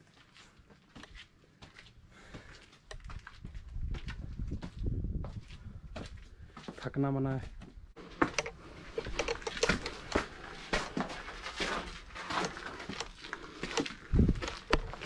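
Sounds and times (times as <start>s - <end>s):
footsteps on stone and dirt: 0.0s - 15.0s.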